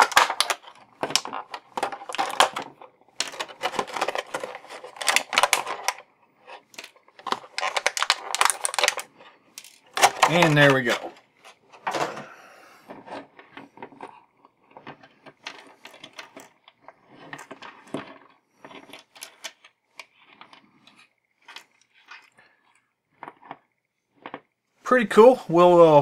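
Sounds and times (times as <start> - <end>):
plastic clatter: 0.0 - 23.6.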